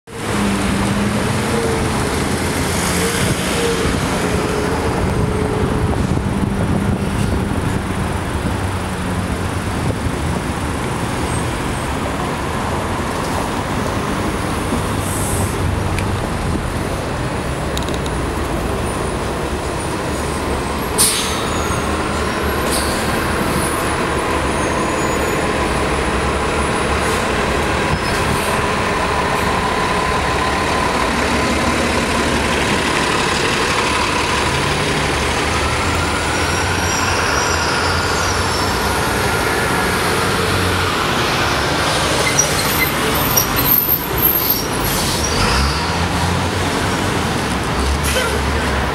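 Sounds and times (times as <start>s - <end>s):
street traffic: 0.0s - 48.9s
bus pulling away: 0.1s - 48.9s.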